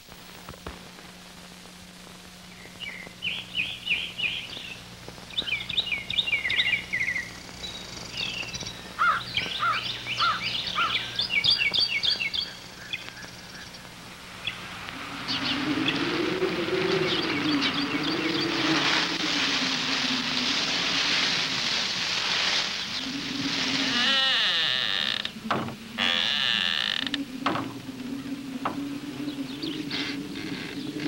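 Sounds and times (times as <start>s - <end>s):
faint low hum: 0.0s - 31.0s
songbirds chirping and singing: 2.4s - 31.0s.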